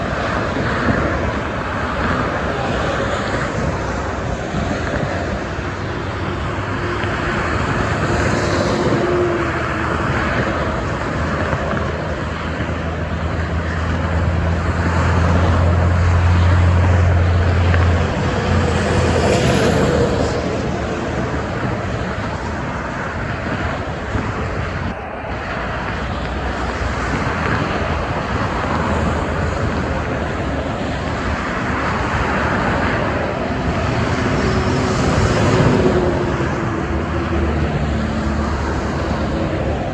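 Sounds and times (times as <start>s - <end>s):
expressway traffic: 0.0s - 39.9s
heavy truck engine drone passing: 0.0s - 39.9s.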